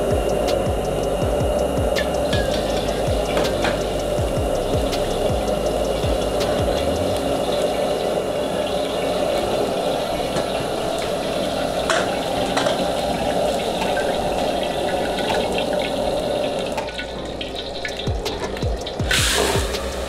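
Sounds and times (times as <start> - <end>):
gas burner rushing: 0.0 - 20.0.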